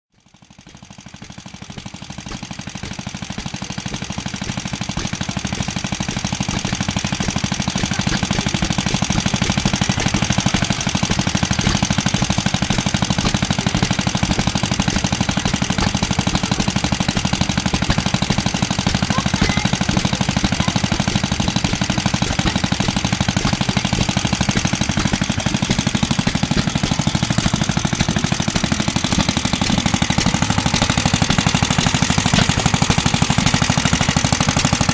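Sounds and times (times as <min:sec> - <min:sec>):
small engine running: 0:00.1 - 0:34.9.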